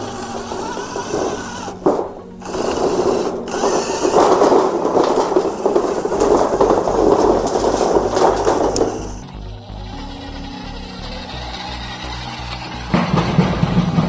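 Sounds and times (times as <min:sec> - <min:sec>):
small electric motors whirring: 0:00.0 - 0:12.9.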